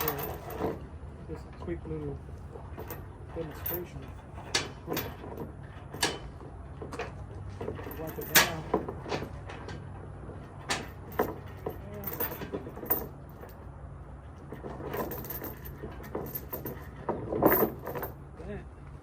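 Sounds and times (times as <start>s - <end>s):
metal clanks: 0.0s - 1.8s, 2.5s - 13.6s, 14.4s - 18.2s
steel chain clinking and rattling: 0.0s - 18.5s.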